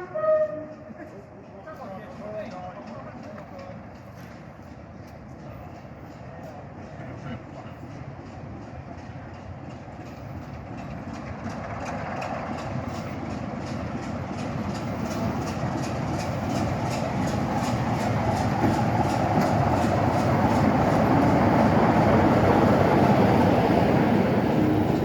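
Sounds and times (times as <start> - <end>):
diesel locomotive approaching: 0.0 - 25.0.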